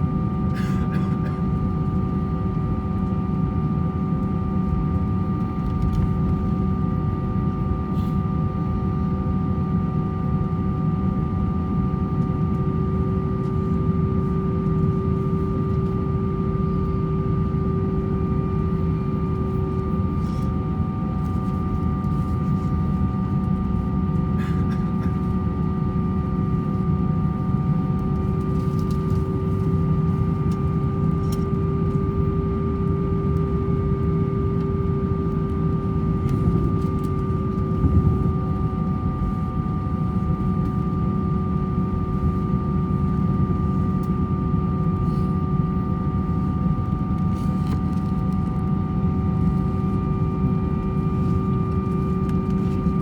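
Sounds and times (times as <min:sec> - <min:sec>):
aircraft cabin engine hum: 0:00.0 - 0:53.0.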